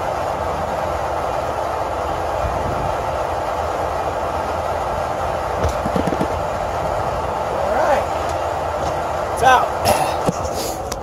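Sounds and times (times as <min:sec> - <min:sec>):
steady mechanical noise: 0:00.0 - 0:11.0.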